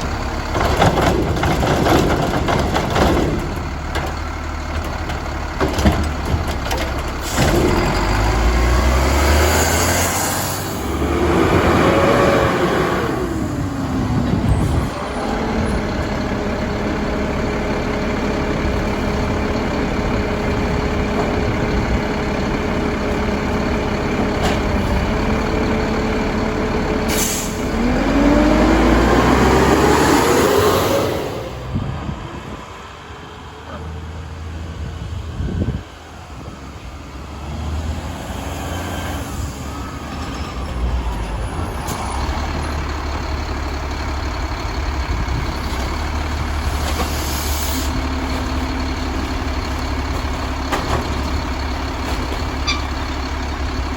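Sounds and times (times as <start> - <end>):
truck engine and hydraulics whine: 0.0 - 53.9.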